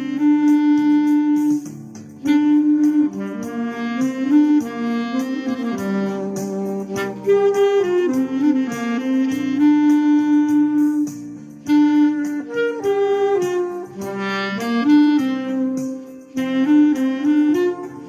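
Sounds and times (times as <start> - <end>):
backing track with steady beat: 0.0 - 18.0
clarinet melody: 0.0 - 18.0.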